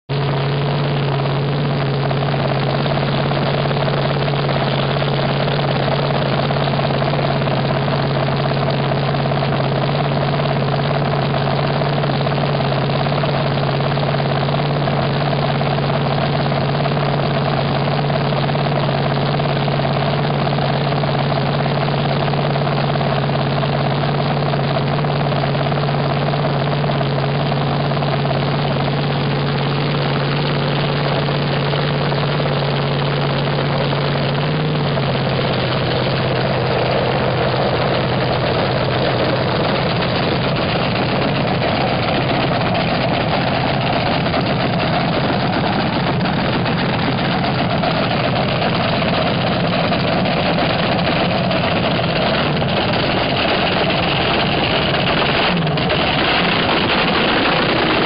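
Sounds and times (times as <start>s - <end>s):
dragster engine idling: 0.0s - 58.0s.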